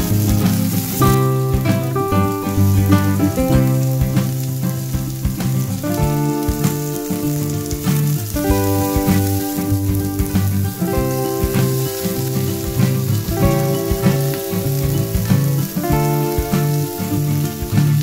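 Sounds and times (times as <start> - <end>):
background music with held chords: 0.0 - 18.0
food sizzling in frying pan: 0.0 - 18.0.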